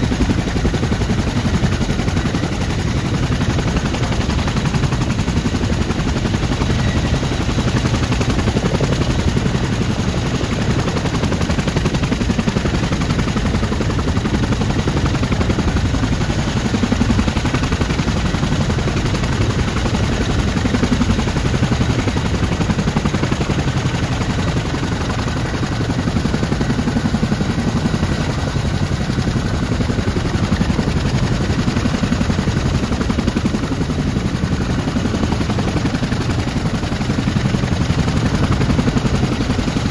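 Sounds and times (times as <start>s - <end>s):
helicopter rotors chopping: 0.0s - 39.9s
turboshaft engines rumbling: 0.0s - 39.9s.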